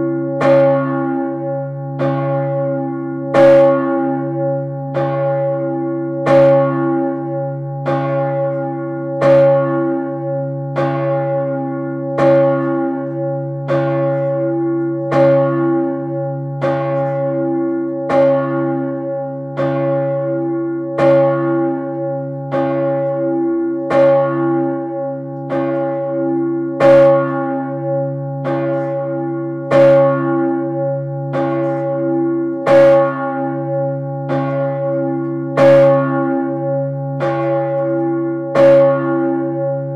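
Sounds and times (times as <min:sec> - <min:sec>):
large church bell tolling: 0:00.0 - 0:39.9.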